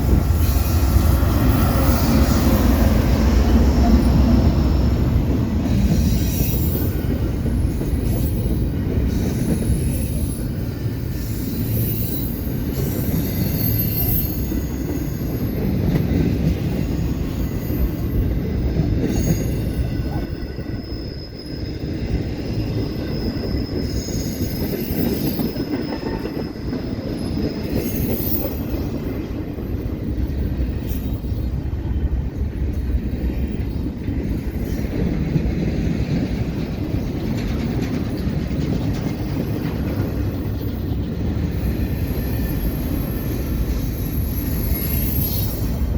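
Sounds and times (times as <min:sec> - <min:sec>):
train wheels rumbling on rails: 0:00.0 - 0:45.9
high wheel squeals: 0:00.4 - 0:29.2, 0:37.8 - 0:45.9.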